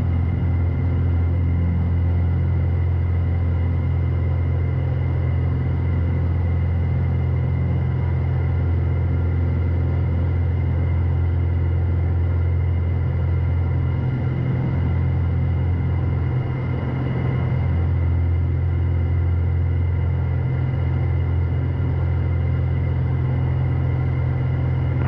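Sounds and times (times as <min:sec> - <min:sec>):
aircraft engine and propeller drone: 0:00.0 - 0:25.0.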